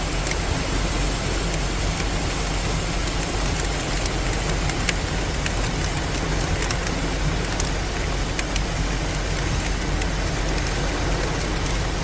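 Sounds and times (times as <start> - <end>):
constant low rumble: 0.0 - 12.0
heavy rain falling: 0.0 - 12.0.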